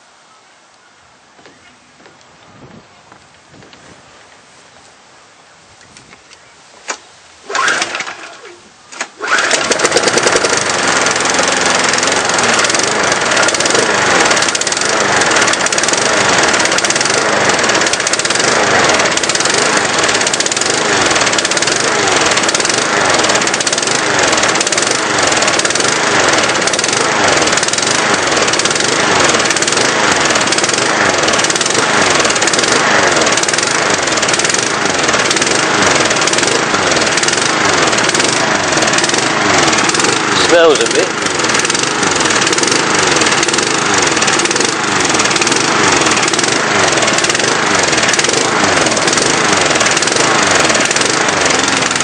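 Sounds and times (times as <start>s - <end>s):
lawnmower engine running: 6.9s - 52.0s
pull cord tugs: 6.9s - 52.0s.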